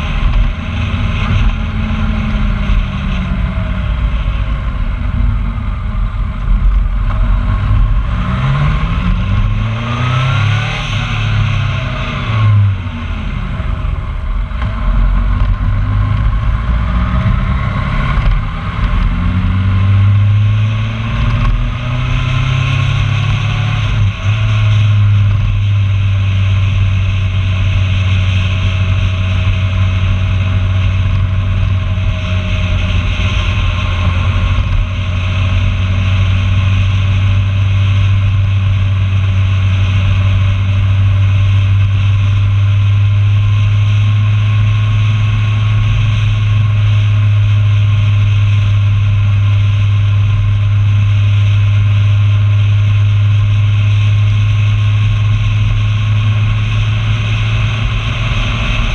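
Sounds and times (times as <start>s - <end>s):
vehicle engine humming: 0.0s - 58.9s
wind rush on microphone: 0.0s - 58.9s.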